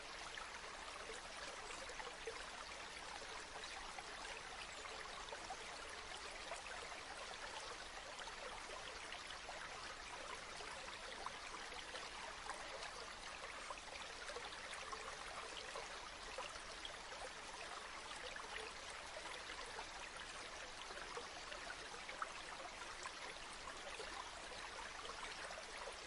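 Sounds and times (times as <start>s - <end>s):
river water babbling: 0.0s - 26.0s.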